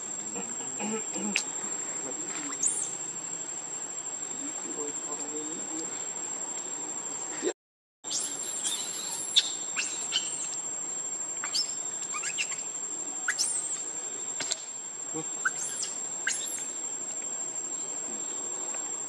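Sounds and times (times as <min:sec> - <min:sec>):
high-pitched insect drone: 0:00.0 - 0:07.2, 0:08.0 - 0:19.0.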